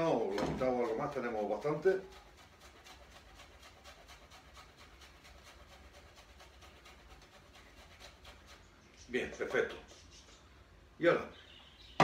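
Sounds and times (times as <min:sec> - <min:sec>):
ginger grated on metal grater: 0:00.1 - 0:09.8.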